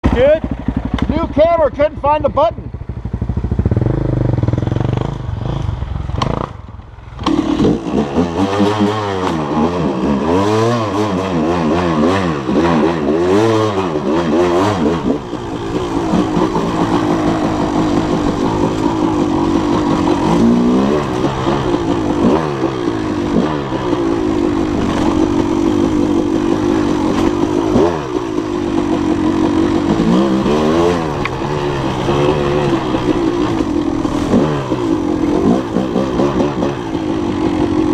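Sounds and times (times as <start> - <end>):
dirt bike engine revving: 2.9 - 37.9.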